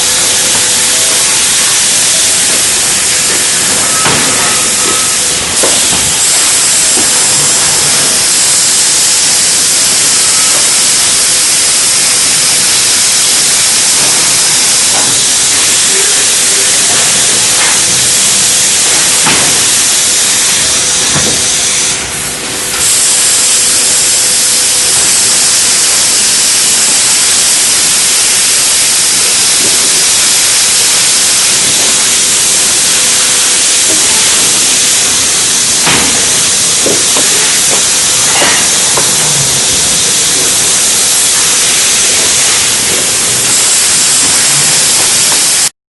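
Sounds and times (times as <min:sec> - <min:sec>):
hissing conveyor machine: 0:00.0 - 0:45.7.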